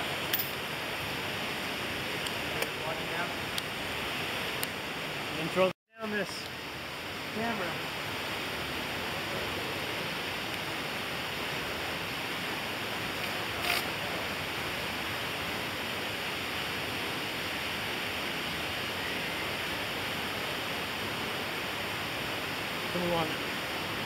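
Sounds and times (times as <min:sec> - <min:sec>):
water rushing through pools: 0:01.2 - 0:24.0.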